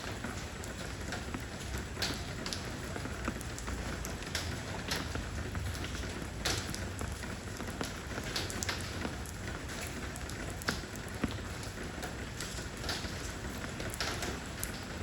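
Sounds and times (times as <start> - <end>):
heavy raindrops striking: 0.0 - 15.0
rain falling on stones: 0.0 - 15.0.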